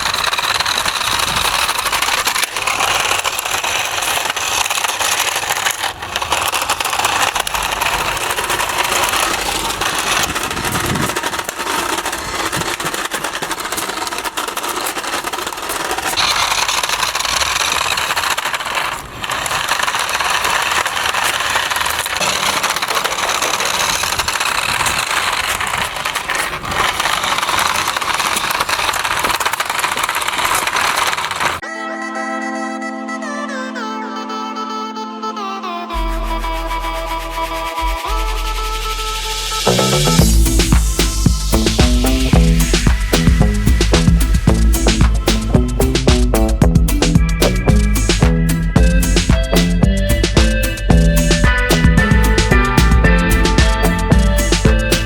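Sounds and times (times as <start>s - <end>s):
toy remote-control car rattling: 0.0s - 31.6s, 36.3s - 55.0s.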